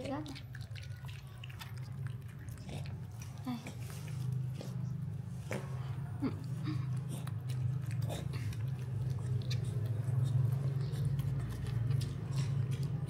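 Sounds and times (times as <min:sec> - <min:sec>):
monkey chewing food: 0:00.0 - 0:13.0.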